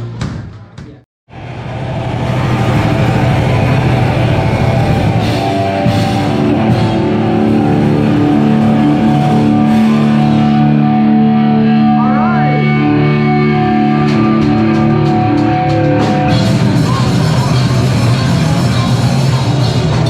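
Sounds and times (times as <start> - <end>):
electric guitar chords: 1.4 - 20.0
live rock band playing: 2.2 - 20.0.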